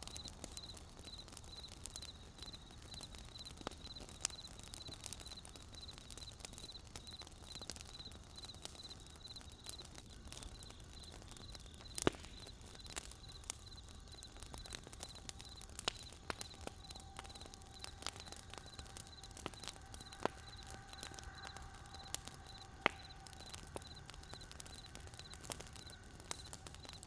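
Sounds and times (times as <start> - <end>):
campfire crackling and popping: 0.0 - 27.0
faint steady tone: 0.0 - 27.0.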